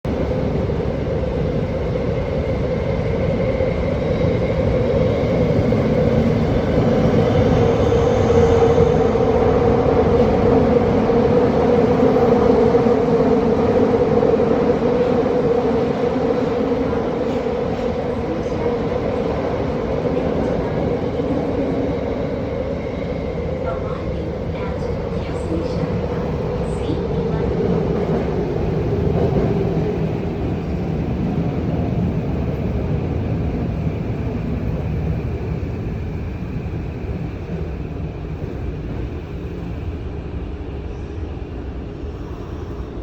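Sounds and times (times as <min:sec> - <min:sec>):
subway train rumbling: 0:00.0 - 0:43.0.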